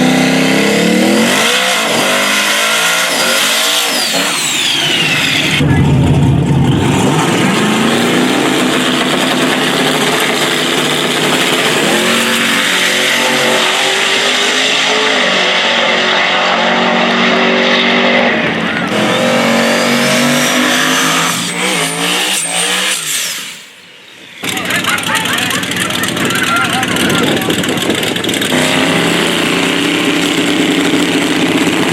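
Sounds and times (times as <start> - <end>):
drag race car engines revving: 0.0 - 31.9.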